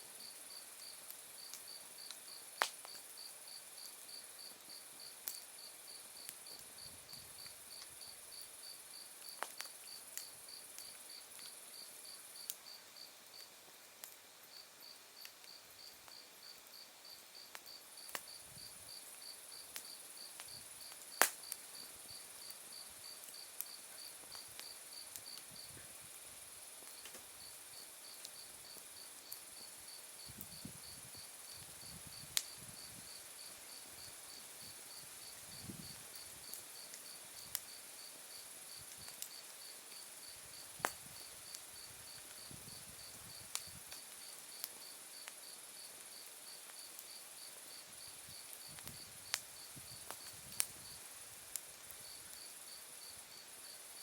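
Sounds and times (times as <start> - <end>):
wood fire crackling and popping: 0.6 - 3.9, 4.7 - 5.6, 6.2 - 12.6, 17.4 - 37.9, 38.8 - 53.6.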